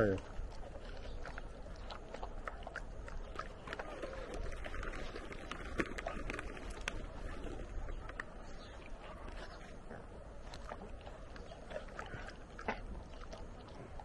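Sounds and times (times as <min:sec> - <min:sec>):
dogs chewing and licking: 0:00.0 - 0:14.0.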